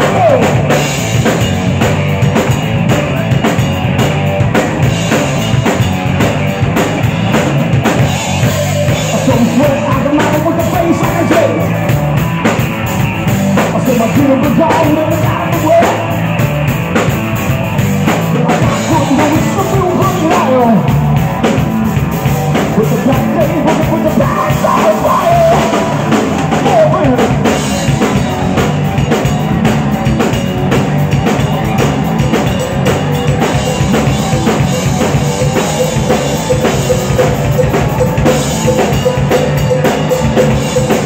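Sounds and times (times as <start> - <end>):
drum kit: 0.0 - 41.0
electric bass: 0.0 - 41.0
electric guitar: 0.0 - 41.0.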